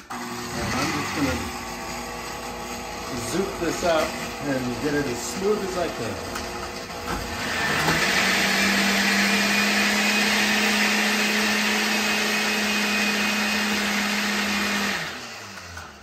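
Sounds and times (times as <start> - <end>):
blender motor running: 0.0 - 16.0.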